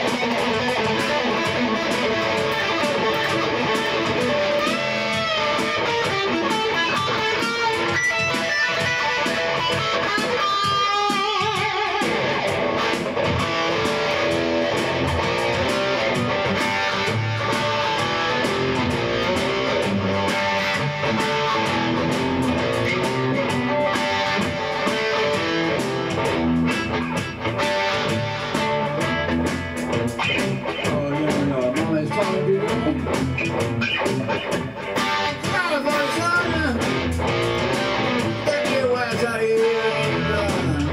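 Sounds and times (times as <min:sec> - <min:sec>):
rock music with electric guitar: 0:00.0 - 0:40.9.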